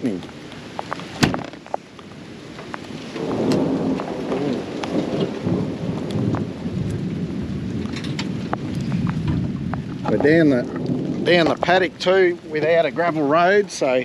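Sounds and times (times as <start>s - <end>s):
rain falling: 0.0s - 14.0s
low rumble of thunder: 1.1s - 14.0s.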